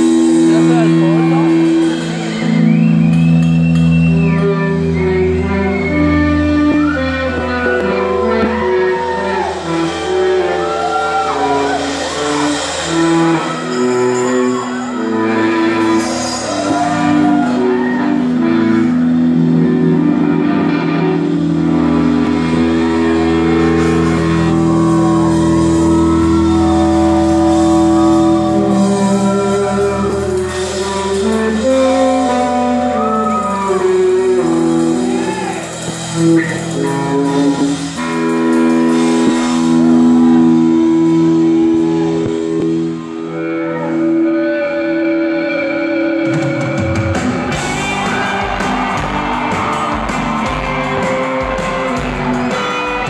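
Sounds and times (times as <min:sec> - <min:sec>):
drums: 0:00.0 - 0:53.0
electric guitar sustained notes: 0:00.0 - 0:53.0.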